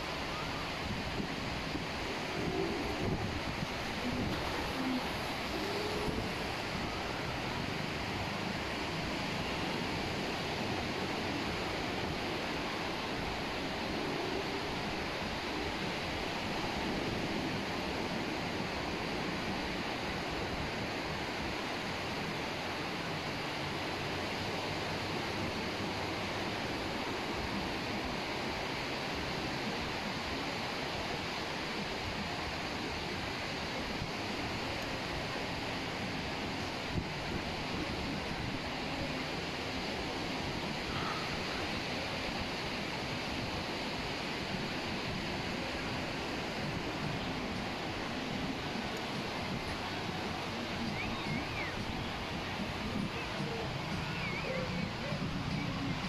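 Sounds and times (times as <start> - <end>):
ocean surf washing on beach: 0.0 - 56.0.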